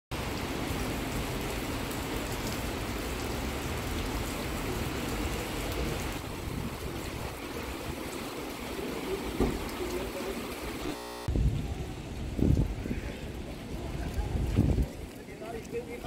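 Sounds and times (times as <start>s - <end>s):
rain on cobbled street: 0.1s - 16.0s.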